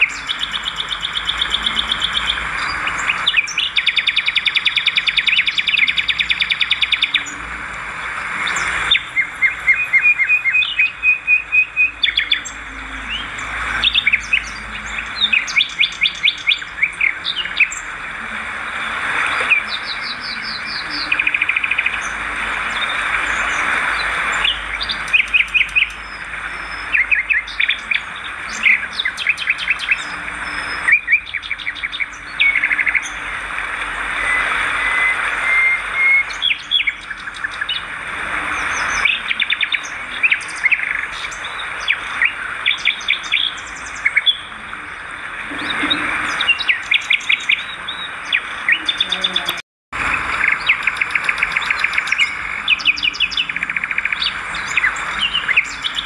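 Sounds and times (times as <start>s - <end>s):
swiftlets twittering: 0.0s - 56.0s.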